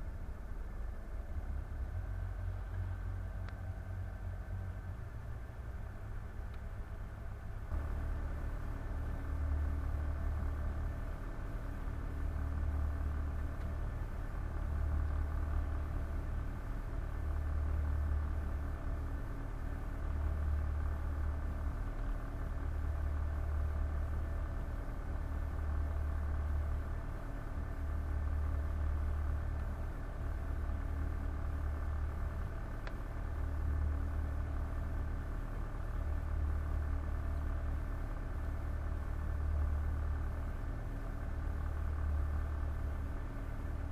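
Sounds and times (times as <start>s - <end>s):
boat engine drone: 0.0s - 43.9s.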